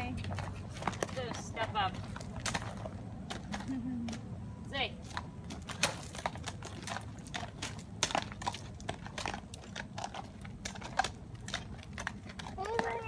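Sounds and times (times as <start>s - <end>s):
horse hooves crunching on gravel: 0.0s - 13.0s.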